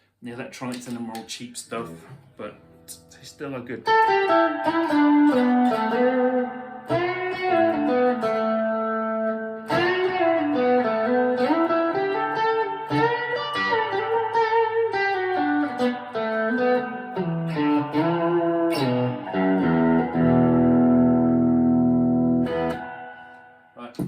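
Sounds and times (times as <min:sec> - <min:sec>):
electric guitar with string bends: 0:00.6 - 0:24.0.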